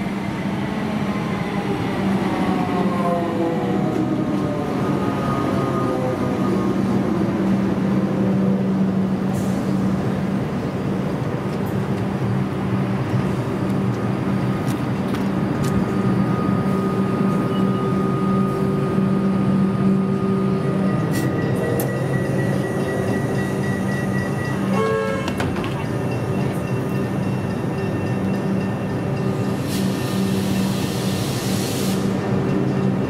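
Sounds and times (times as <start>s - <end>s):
train equipment humming: 0.0s - 33.0s.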